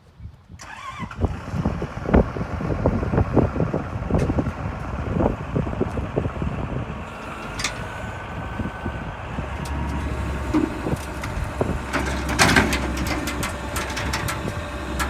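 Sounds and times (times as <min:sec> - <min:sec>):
diesel engine rumbling: 0:00.6 - 0:15.0.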